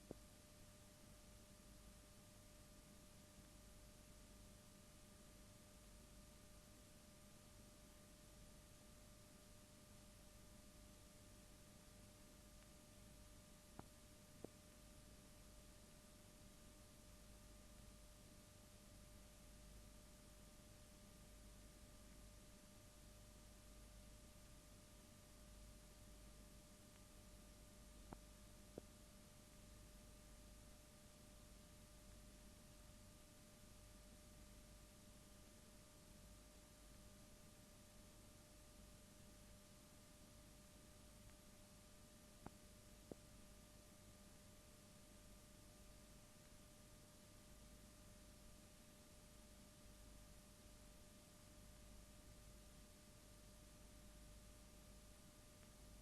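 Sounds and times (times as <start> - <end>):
faint hum and hiss: 0.0 - 56.0.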